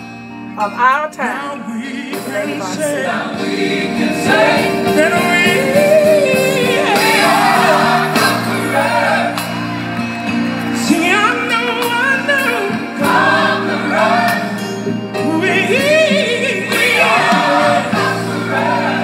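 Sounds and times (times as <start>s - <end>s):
sustained backing chords: 0.0s - 19.0s
person singing gospel: 0.6s - 9.5s, 10.8s - 19.0s.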